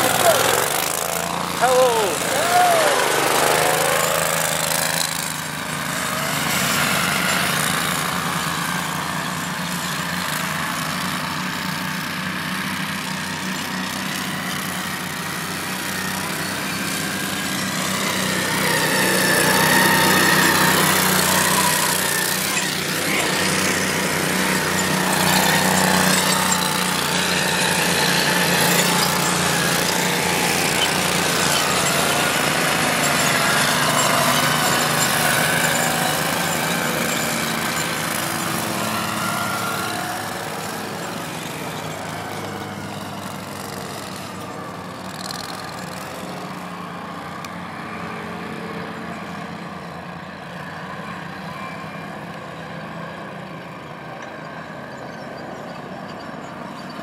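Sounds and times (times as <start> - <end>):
dune buggy engines running: 0.0 - 57.0.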